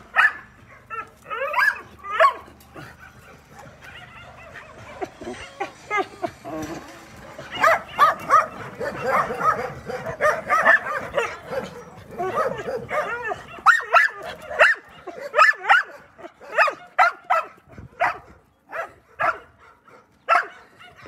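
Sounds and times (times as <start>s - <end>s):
dogs barking and yipping: 0.0s - 21.0s.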